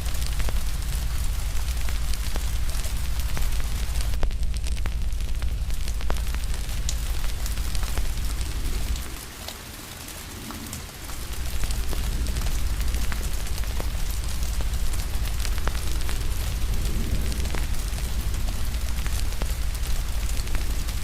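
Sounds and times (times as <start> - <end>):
deep low rumble: 0.0 - 9.2, 11.1 - 21.0
fire crackling and popping: 0.0 - 21.0
rain hiss: 0.0 - 21.0.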